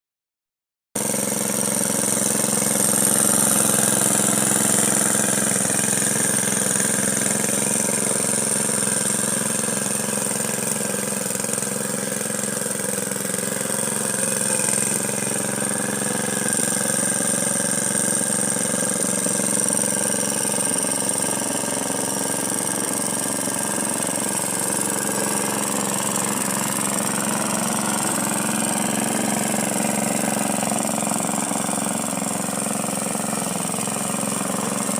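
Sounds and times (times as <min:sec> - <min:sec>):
lawn mower cutting grass: 0:01.0 - 0:34.9.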